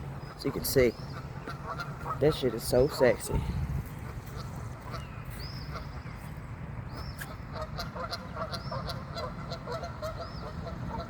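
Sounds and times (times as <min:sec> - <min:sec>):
steady low rumble: 0:00.0 - 0:11.0
waterfowl calling: 0:00.1 - 0:02.7, 0:04.0 - 0:06.2, 0:06.9 - 0:11.0.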